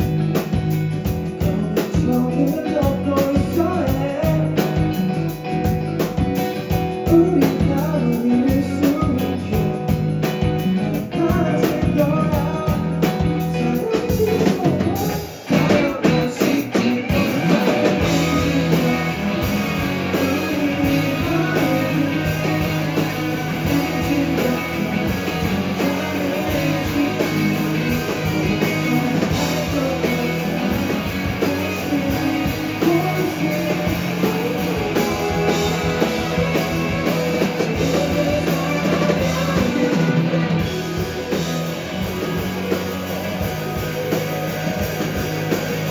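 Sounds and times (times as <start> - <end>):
drum kit: 0.0 - 45.9
guitar: 0.0 - 45.9
live rock band playing: 0.0 - 45.9.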